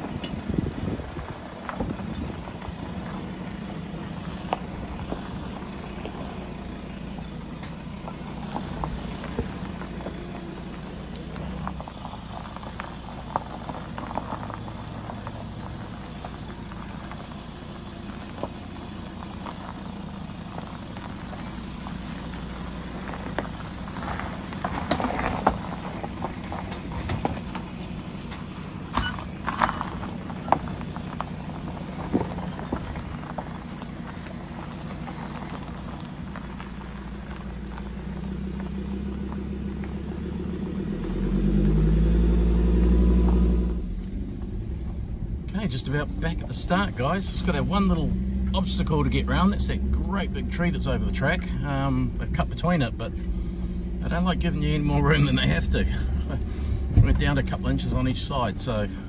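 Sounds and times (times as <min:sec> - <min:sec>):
body and suspension rattles: 0:00.0 - 0:59.0
truck engine running at low revs: 0:00.0 - 0:59.0.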